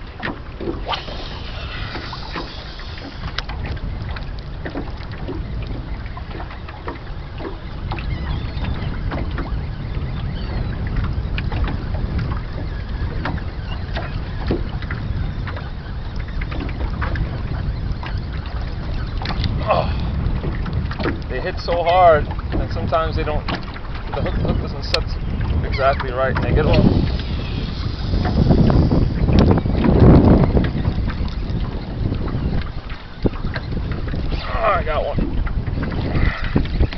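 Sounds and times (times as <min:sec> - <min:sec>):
water slapping against hull: 0:00.0 - 0:36.9
wind buffeting microphone: 0:00.0 - 0:36.9.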